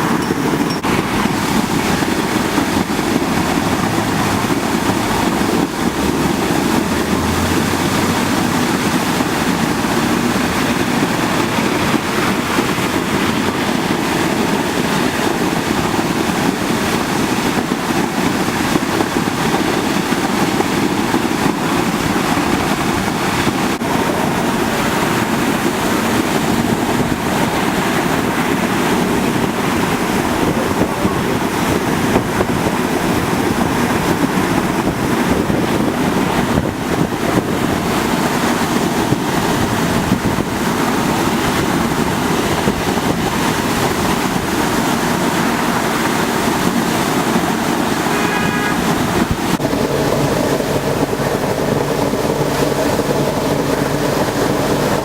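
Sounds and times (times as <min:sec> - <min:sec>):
water gushing from hydrant: 0:00.0 - 0:55.0.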